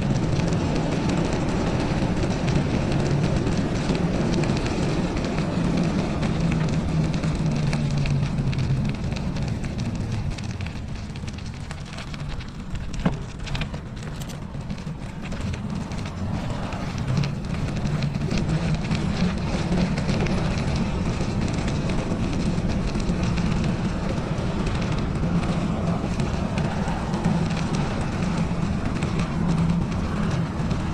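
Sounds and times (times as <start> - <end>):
bicycle tyres rolling over snow: 0.0 - 30.9
wind rumbling on microphone: 0.0 - 30.9.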